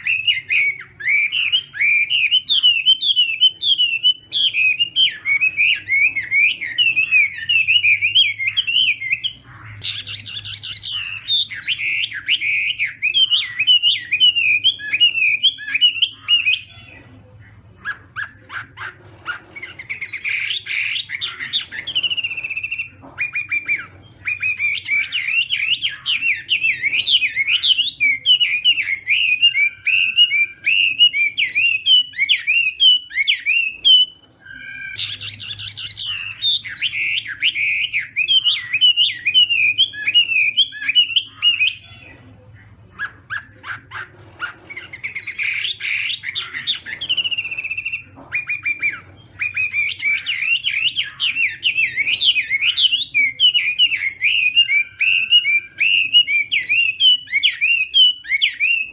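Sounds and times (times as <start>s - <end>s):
bird singing whistled phrases: 0.0s - 16.8s, 19.8s - 42.0s, 45.0s - 58.9s.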